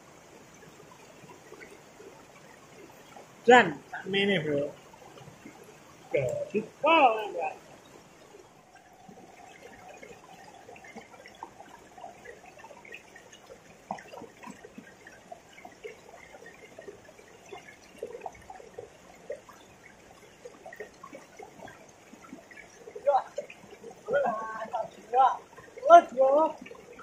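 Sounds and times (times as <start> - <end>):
river water trickling: 0.0 - 27.0
water drips and plinks: 0.0 - 27.0.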